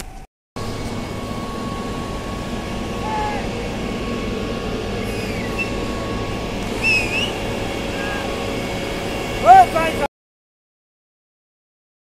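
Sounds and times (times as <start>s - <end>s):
construction machinery engines droning: 0.1s - 10.1s.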